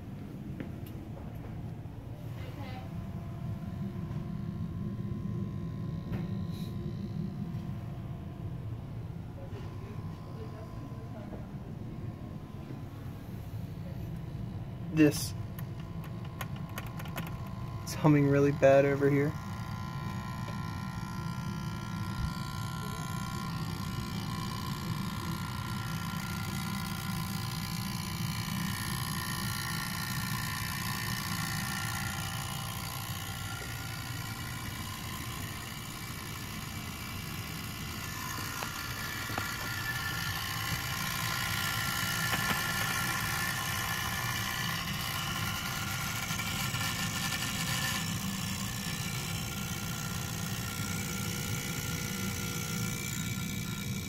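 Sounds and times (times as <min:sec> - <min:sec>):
low electrical hum and buzz: 0:00.0 - 0:54.0
high whining tones: 0:02.0 - 0:54.0.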